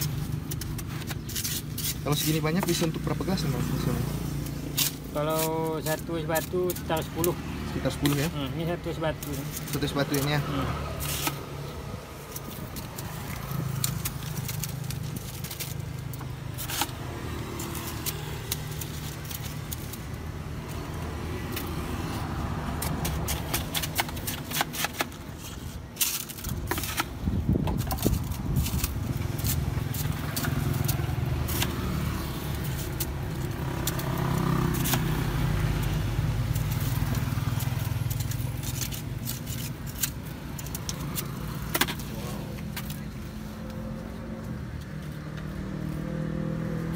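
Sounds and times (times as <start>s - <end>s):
plastic scoop scraping shaved ice: 0.0s - 43.3s
ice clicks and crackles: 0.0s - 43.4s
motor traffic hum: 0.0s - 46.9s.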